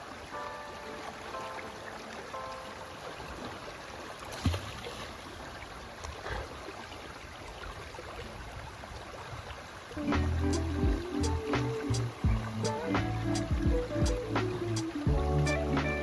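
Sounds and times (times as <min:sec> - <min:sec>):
water rushing and splashing: 0:00.0 - 0:16.0.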